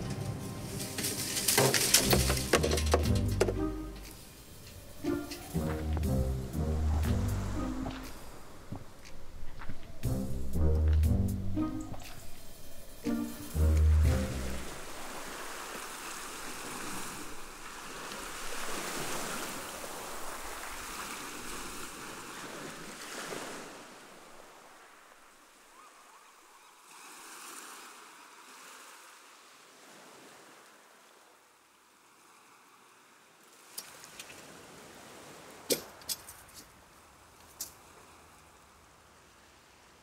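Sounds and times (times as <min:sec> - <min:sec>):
sea waves washing on shore: 0:00.0 - 0:09.6, 0:11.9 - 0:25.9, 0:26.6 - 0:40.0.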